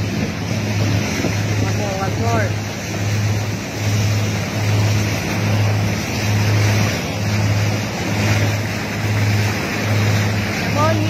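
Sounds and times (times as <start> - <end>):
motorboat engine humming: 0.0 - 11.0
water rushing: 0.0 - 11.0
wind: 0.0 - 11.0.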